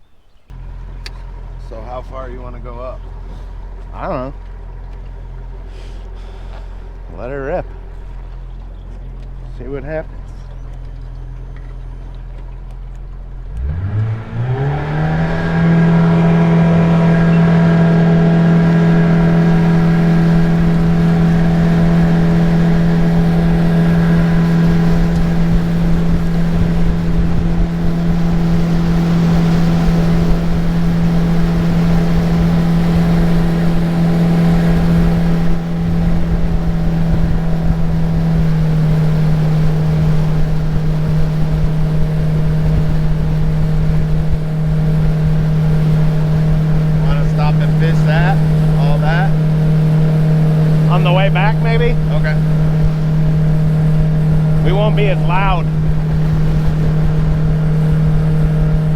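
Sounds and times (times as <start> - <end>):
boat motor revving with rising whine: 0.5 - 58.9.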